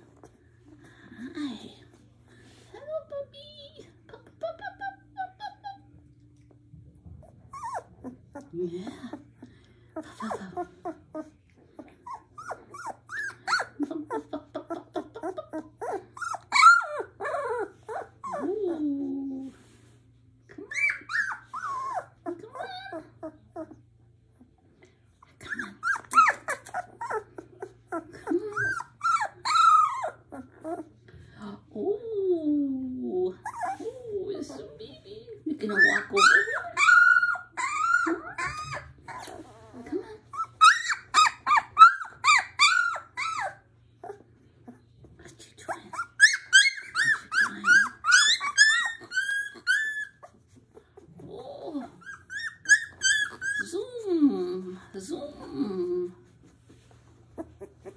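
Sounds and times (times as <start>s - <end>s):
puppies whining and squeaking: 0.0s - 2.6s, 4.4s - 31.3s, 32.8s - 57.9s.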